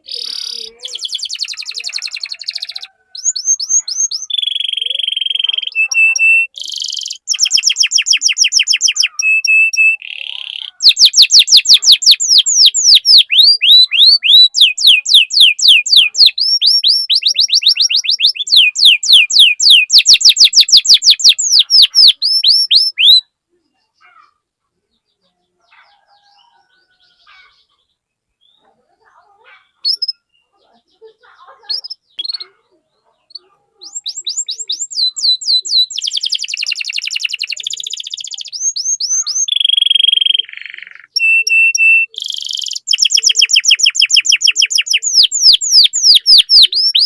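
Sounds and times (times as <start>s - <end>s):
canary singing: 0.0s - 47.0s.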